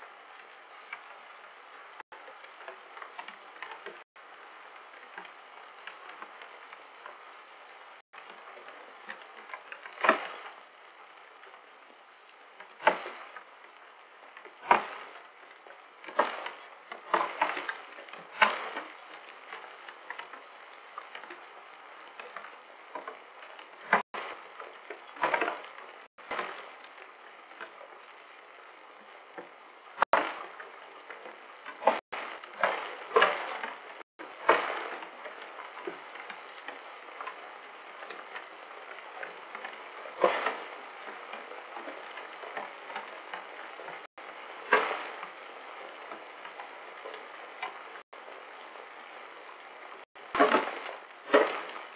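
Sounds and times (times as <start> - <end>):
rain and hail hiss: 0.0 - 33.1, 33.7 - 51.9.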